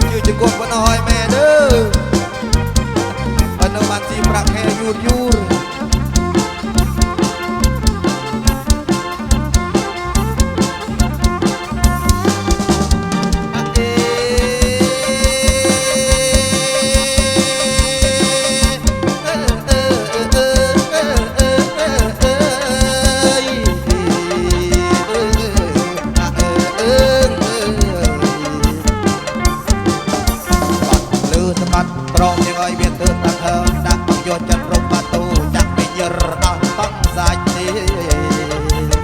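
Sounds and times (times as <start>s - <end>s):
live band music over a pa: 0.0s - 39.0s
steady drum beat: 0.0s - 39.0s
wavering lead melody: 0.0s - 39.0s.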